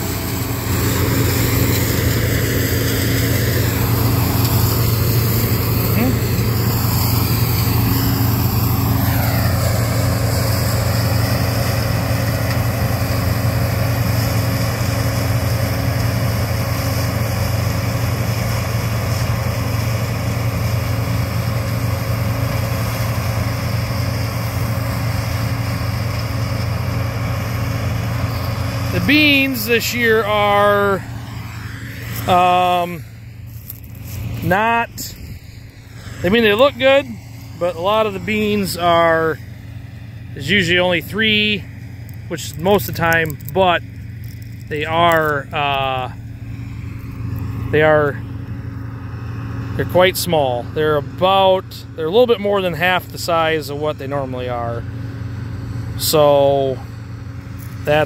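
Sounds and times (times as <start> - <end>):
combine harvester engine hum: 0.0 - 58.0.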